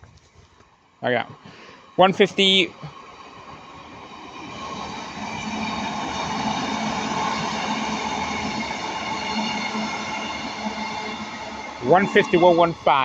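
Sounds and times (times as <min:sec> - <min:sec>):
rail noise: 0:00.0 - 0:13.0
diesel train engine hum: 0:00.6 - 0:13.0
train whine: 0:00.6 - 0:13.0.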